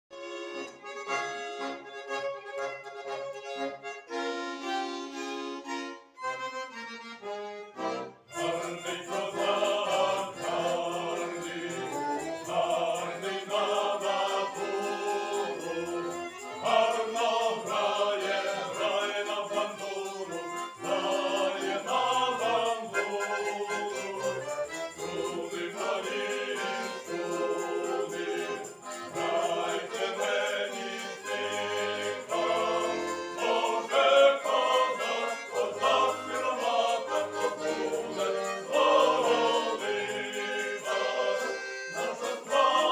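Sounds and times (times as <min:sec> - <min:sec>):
button accordion: 0:00.1 - 0:42.9
mixed choir singing folk song: 0:07.8 - 0:42.9.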